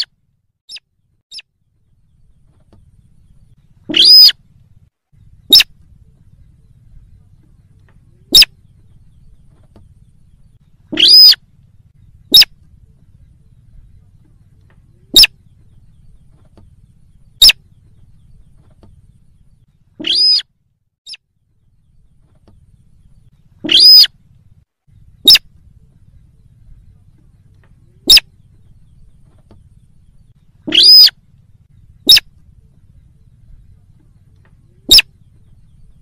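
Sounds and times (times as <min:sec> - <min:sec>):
rail bird calling: 0:00.0 - 0:01.5, 0:02.1 - 0:20.5, 0:21.9 - 0:24.3, 0:25.0 - 0:36.0.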